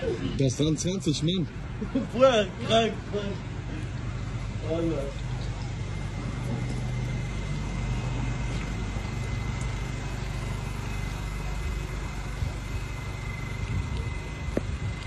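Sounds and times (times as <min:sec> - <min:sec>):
electric train hum: 0:02.7 - 0:15.0
high train whine: 0:02.7 - 0:15.0.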